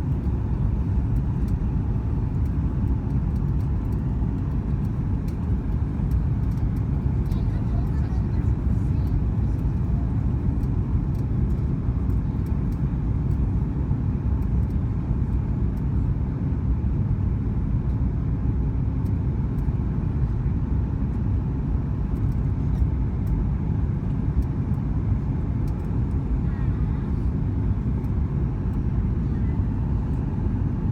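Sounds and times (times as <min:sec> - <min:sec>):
airplane engine and rolling rumble: 0:00.0 - 0:30.9.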